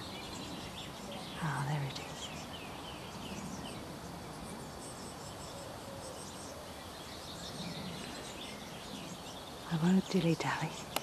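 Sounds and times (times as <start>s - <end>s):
nestling birds chirping: 0.0s - 11.0s
outdoor background noise: 0.0s - 11.0s.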